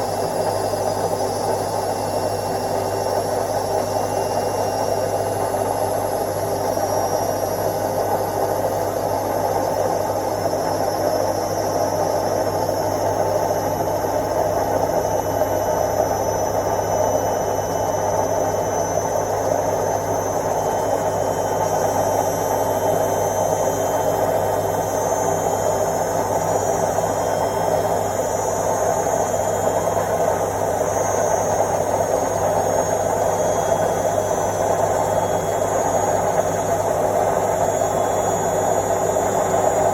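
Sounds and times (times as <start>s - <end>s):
washing machine motor whir: 0.0s - 39.9s.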